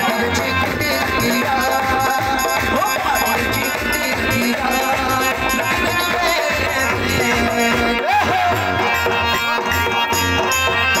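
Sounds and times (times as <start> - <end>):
man singing into microphone: 0.0 - 10.5
steady drum beat: 0.0 - 11.0.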